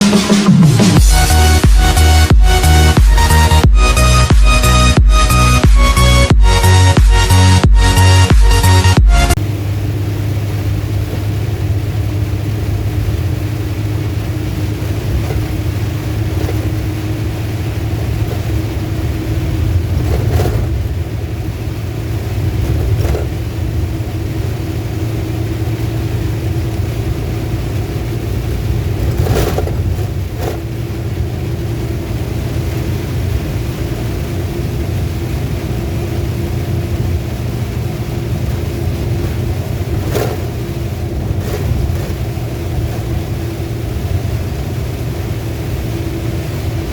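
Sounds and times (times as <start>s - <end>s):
car engine and road drone: 0.0s - 46.9s
rain hissing: 0.0s - 46.9s.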